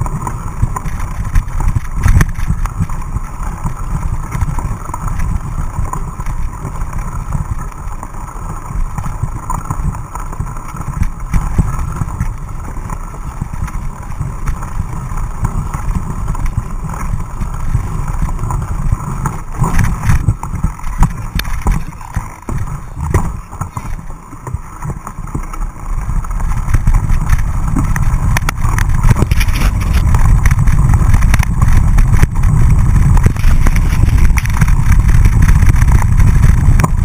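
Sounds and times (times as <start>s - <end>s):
bike knocking and rattling: 0.0s - 37.0s
mountain bike rumbling over rough trail: 0.0s - 37.0s
wind on microphone: 0.0s - 37.0s.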